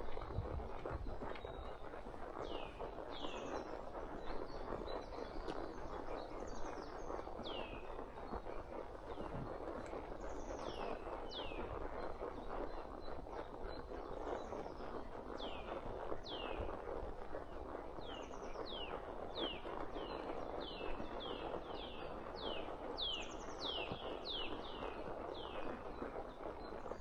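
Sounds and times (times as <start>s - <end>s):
steady rustling noise: 0.0s - 27.0s.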